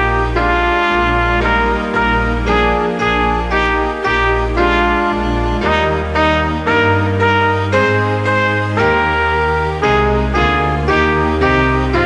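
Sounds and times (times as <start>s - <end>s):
brass band playing slow march: 0.0s - 12.0s.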